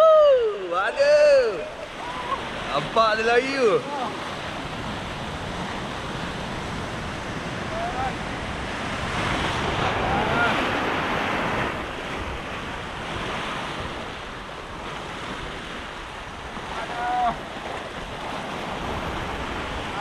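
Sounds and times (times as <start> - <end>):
surf breaking over rocks: 0.5 - 20.0
wind buffeting microphone: 3.8 - 20.0.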